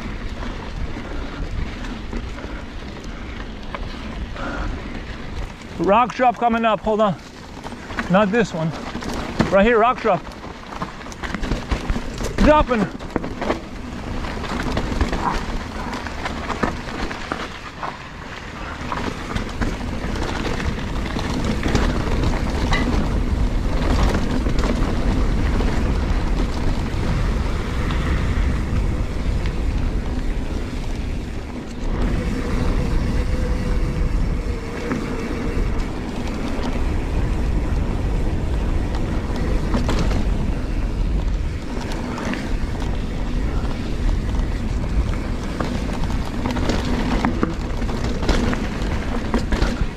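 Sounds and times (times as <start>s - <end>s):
bike clicks and rattles: 0.0s - 49.9s
wind rushing over microphone: 0.0s - 49.9s
tyre rumble on dirt: 3.2s - 49.9s.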